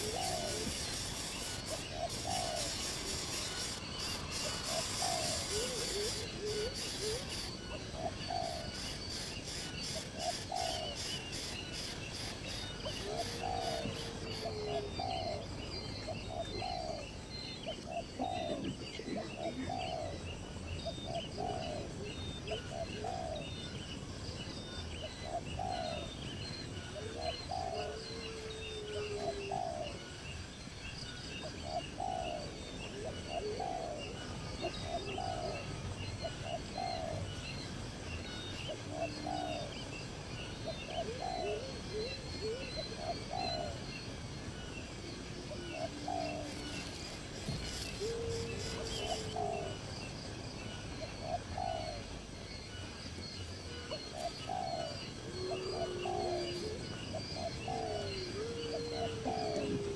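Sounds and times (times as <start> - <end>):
dove cooing: 0.0 - 17.1, 17.7 - 23.6, 25.0 - 26.2, 26.9 - 30.2, 31.4 - 37.4, 38.6 - 39.8, 40.6 - 44.2, 45.3 - 50.0, 51.0 - 52.3, 53.6 - 59.9
small birds chirping: 0.0 - 59.9.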